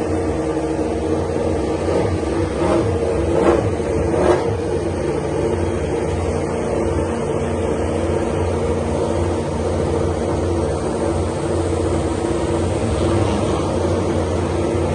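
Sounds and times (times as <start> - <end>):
racing motorcycle engine droning: 0.0 - 14.9.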